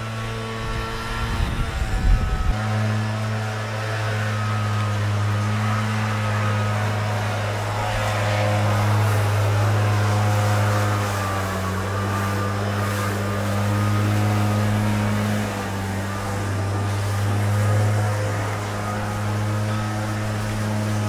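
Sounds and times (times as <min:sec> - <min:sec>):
leaf blower engine running: 0:00.0 - 0:21.0.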